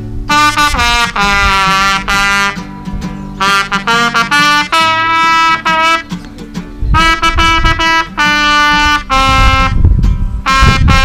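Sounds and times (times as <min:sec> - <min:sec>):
guitar accompaniment: 0:00.0 - 0:11.0
horn melody: 0:00.0 - 0:11.0.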